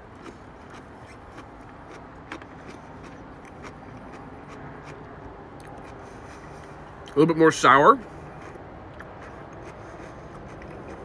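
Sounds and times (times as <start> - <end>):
crunchy pickle chewing: 0.0 - 7.2, 8.0 - 11.0.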